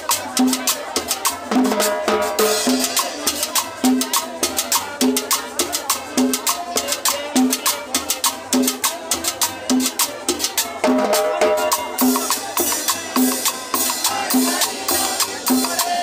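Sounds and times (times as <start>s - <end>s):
guitar: 0.0s - 16.0s
live band playing: 0.0s - 16.0s.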